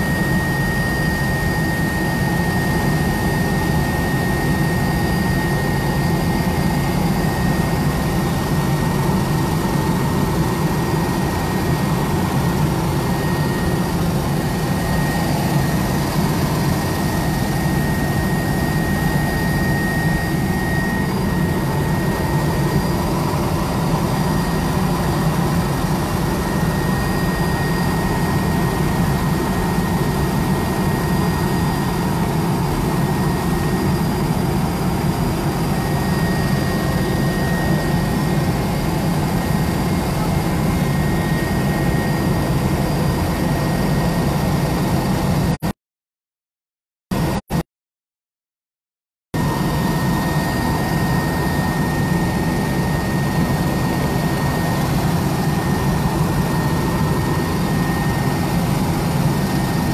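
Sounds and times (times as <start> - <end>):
helicopter engine and rotor drone: 0.0 - 45.6, 47.1 - 47.6, 49.4 - 59.9
thin high whine: 0.0 - 45.6, 49.4 - 59.9.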